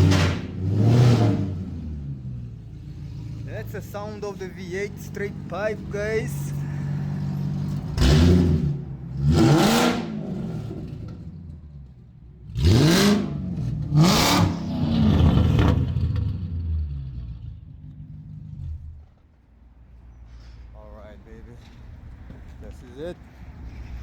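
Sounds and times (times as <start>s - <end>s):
car engine revving and idling: 0.0s - 19.3s.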